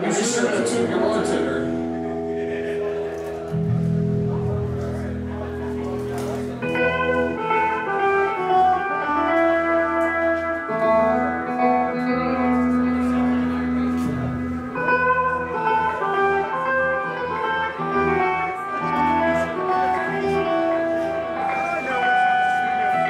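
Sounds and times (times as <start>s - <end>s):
bass guitar: 0.0s - 23.0s
electric guitar: 0.0s - 23.0s.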